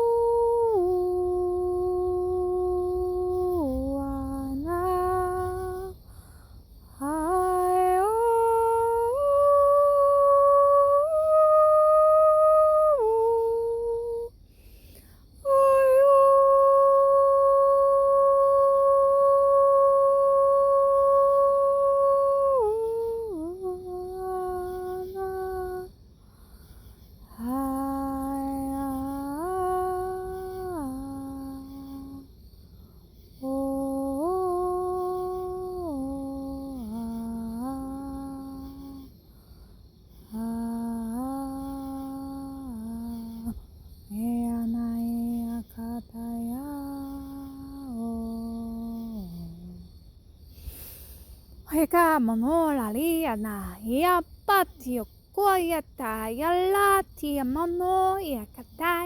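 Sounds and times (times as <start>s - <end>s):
woman humming long notes: 0.0s - 6.0s, 7.0s - 14.3s, 15.4s - 25.9s, 27.3s - 32.3s, 33.4s - 39.1s, 40.3s - 49.9s, 51.7s - 59.0s.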